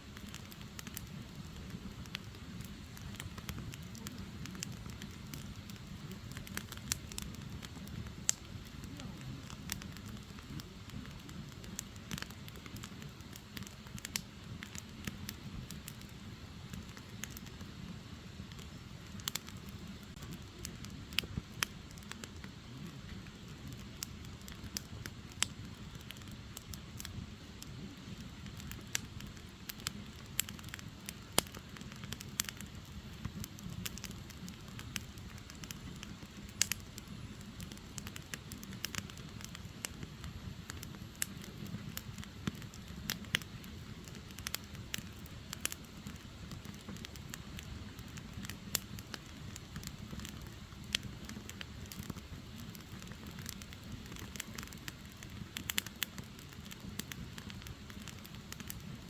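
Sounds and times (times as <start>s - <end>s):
flames rushing: 0.0s - 59.0s
logs crackling and popping: 0.0s - 59.0s.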